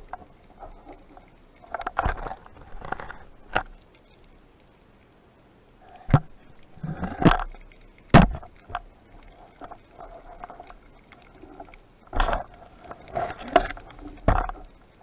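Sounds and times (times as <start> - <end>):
soft rubbing and rumbling: 0.0 - 3.8, 5.9 - 15.0
knocks and clicks underwater: 0.0 - 4.1, 6.0 - 15.0.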